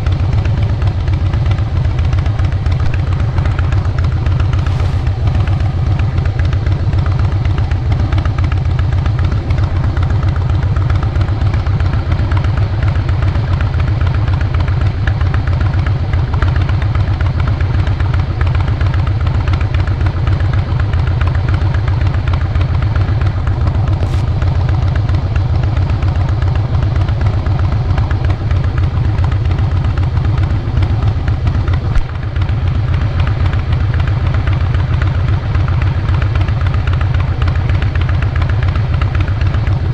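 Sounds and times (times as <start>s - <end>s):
motorcycle exhaust note: 0.0s - 17.4s, 18.0s - 39.9s.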